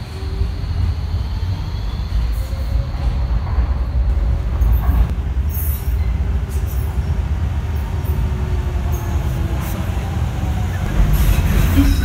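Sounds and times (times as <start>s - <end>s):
train rumbling with faint whine: 0.0s - 12.0s.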